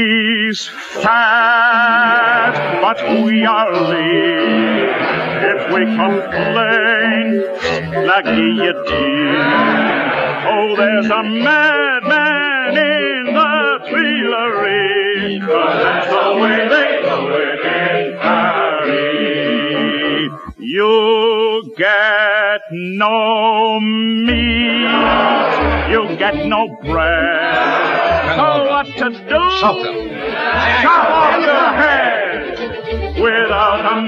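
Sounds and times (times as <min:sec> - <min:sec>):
person singing with vibrato: 0:00.0 - 0:34.0
orchestra: 0:00.9 - 0:20.6, 0:24.2 - 0:34.0.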